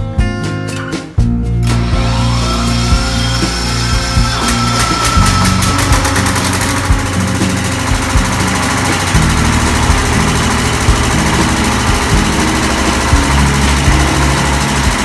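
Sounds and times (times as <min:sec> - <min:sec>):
diesel generator running: 0:01.2 - 0:15.0.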